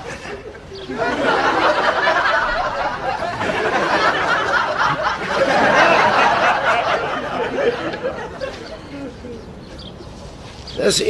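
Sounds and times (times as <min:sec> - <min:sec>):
audience laughing: 0:00.0 - 0:09.5.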